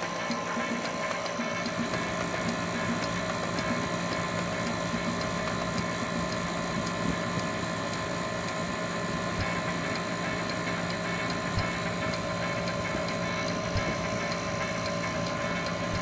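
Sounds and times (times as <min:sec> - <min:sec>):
compressor and fan humming: 0:00.0 - 0:16.0.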